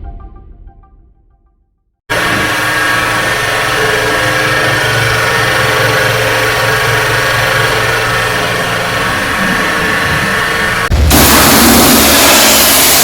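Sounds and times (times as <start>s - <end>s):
pressure washer running: 2.1s - 13.0s.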